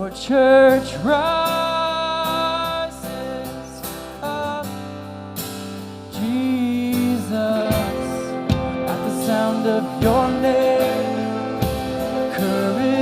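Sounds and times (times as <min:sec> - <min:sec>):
person singing: 0:00.0 - 0:04.9, 0:06.2 - 0:13.0
steady bass: 0:00.0 - 0:13.0
strummed acoustic guitar: 0:00.0 - 0:13.0.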